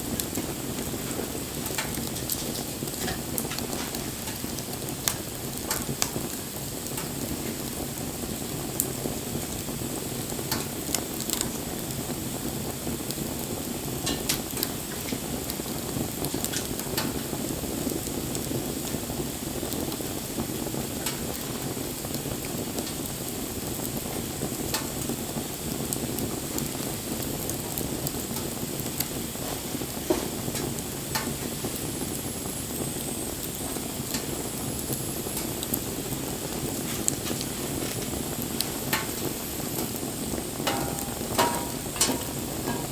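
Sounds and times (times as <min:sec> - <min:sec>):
burning wood crackling and popping: 0:00.0 - 0:42.9
low rush of flame: 0:00.0 - 0:42.9.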